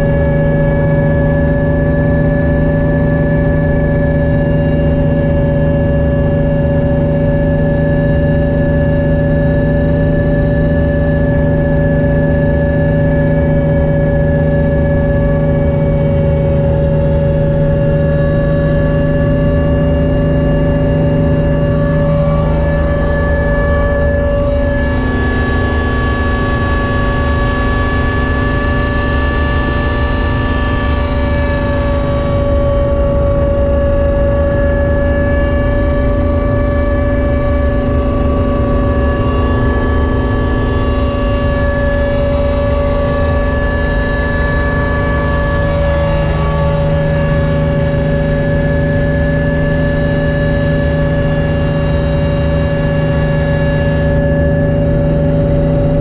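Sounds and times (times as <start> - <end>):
engine and transmission whine: 0.0 - 56.0
helicopter rotor rumble: 0.0 - 56.0
low hum: 0.0 - 56.0.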